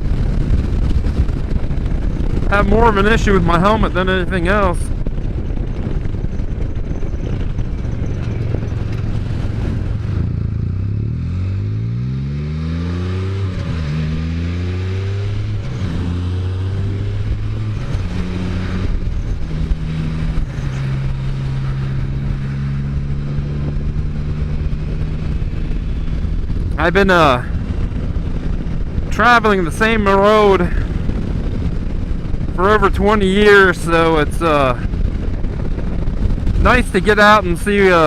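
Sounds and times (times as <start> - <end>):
engine shifting through gears: 0.0 - 38.0
wind rushing over microphone: 0.0 - 38.0.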